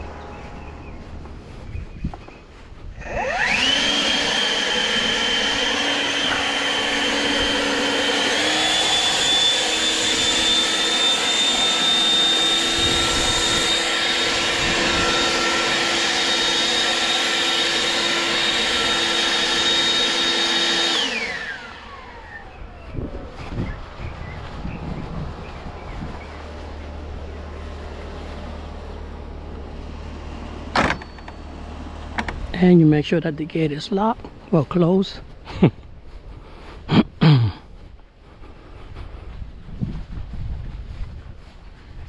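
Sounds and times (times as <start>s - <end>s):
leaf blower whining: 0.0s - 39.2s.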